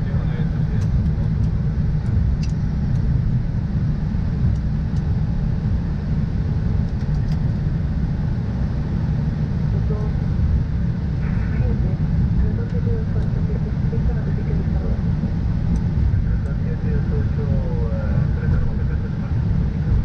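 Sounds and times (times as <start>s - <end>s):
aircraft taxiing rumble: 0.0s - 20.0s.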